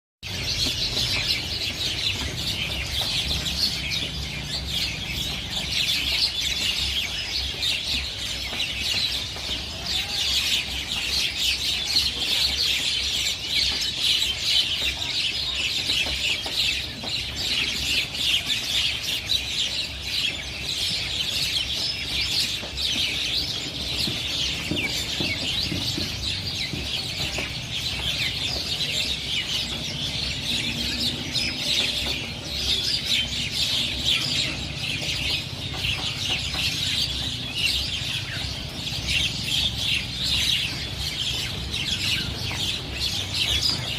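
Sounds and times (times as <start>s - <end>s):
flock of small birds chirping: 0.2s - 43.9s.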